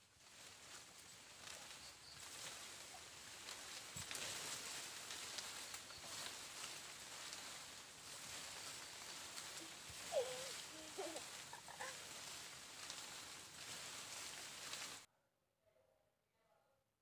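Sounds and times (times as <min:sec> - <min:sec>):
faint outdoor hiss: 0:00.0 - 0:15.1
short pitched calls: 0:01.2 - 0:15.0.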